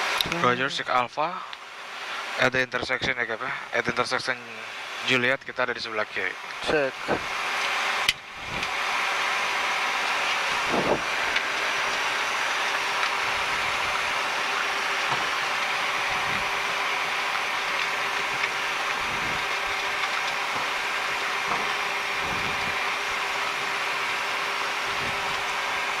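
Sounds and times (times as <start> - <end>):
air conditioning and engine hiss: 0.0 - 26.0
steady hum: 0.0 - 26.0.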